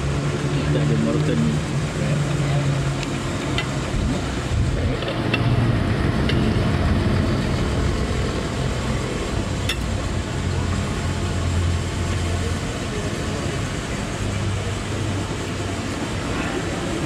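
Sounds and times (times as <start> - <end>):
traffic engine hum: 0.0 - 17.0.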